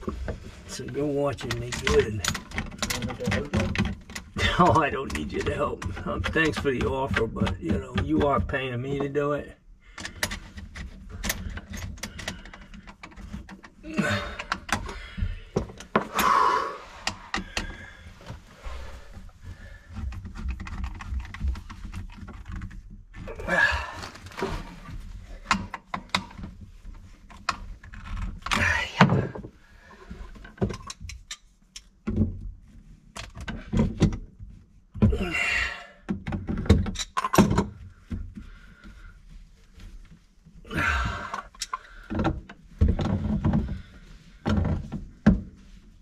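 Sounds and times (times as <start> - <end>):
clunks and scrapes on plastic pipes: 0.0 - 46.0.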